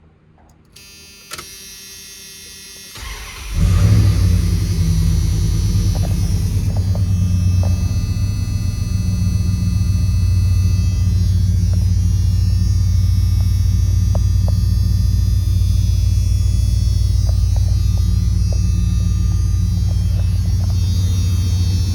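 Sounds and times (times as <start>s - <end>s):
pickup engine idling: 3.0s - 21.9s.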